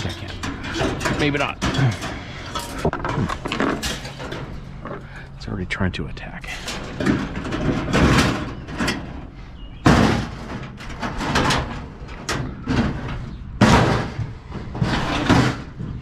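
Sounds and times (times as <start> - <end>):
loud bangs of junk: 0.0 - 4.9, 6.6 - 16.0
clattering and scraping: 0.0 - 5.4, 6.4 - 16.0.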